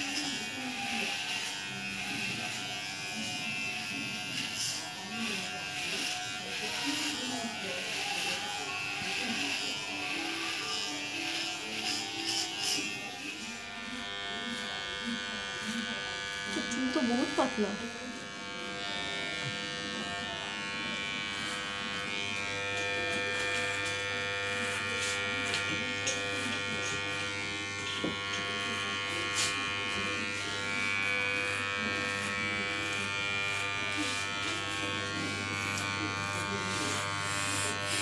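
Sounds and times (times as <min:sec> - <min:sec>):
electric hair clipper buzzing: 0:00.0 - 0:38.0.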